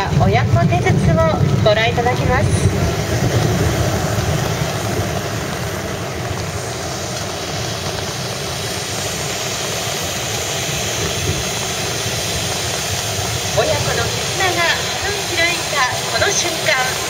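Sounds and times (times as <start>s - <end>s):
fireworks spraying with rushing hiss: 0.0s - 17.0s.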